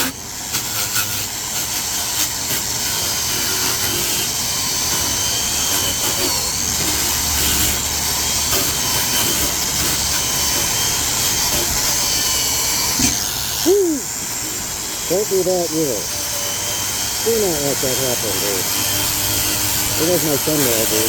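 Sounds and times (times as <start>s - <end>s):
wire wheel grinder scouring metal: 0.0s - 21.0s.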